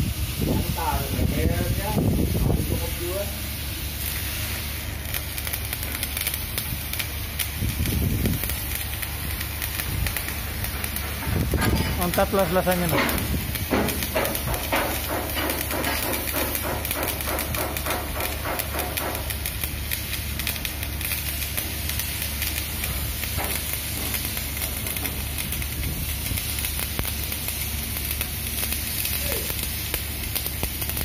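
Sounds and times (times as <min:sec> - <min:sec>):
welding arc sizzling: 0:00.0 - 0:31.0.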